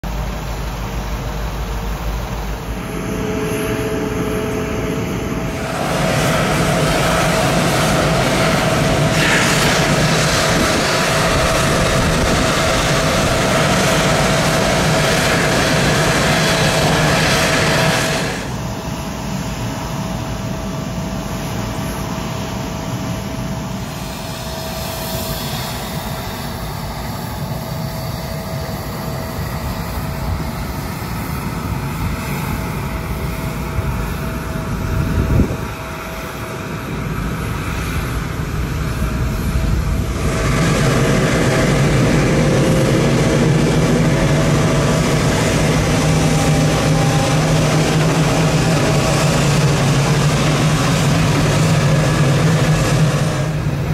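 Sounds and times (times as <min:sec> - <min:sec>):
jet engine whine and hiss: 0:00.0 - 0:53.9.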